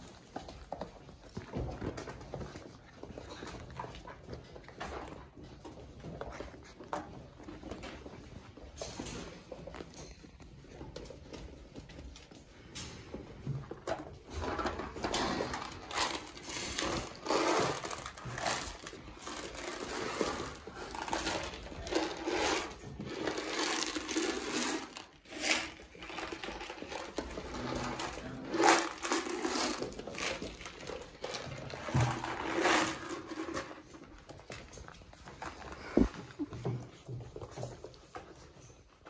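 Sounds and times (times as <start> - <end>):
puppies scuffling on blankets: 0.0 - 39.0.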